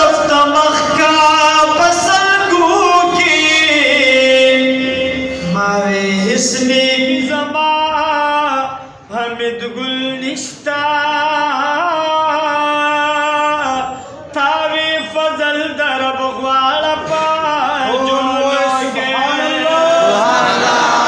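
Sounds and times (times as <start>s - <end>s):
men singing devotional hymn: 0.0s - 21.0s.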